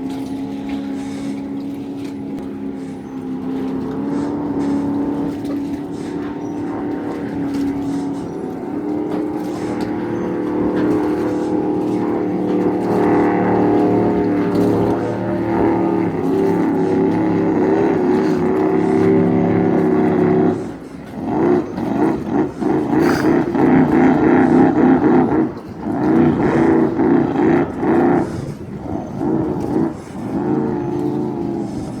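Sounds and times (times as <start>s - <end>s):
boat engine revving: 0.0s - 32.0s.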